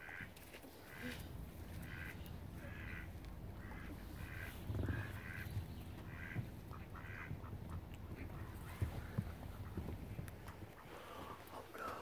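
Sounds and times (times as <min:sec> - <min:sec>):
ducks quacking: 0:00.0 - 0:12.0
low rumble: 0:01.2 - 0:11.5.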